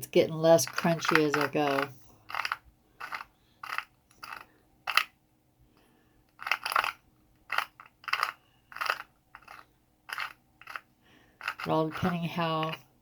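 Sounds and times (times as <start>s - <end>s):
grinder rattling and crunching: 0.6s - 5.0s, 6.4s - 12.8s.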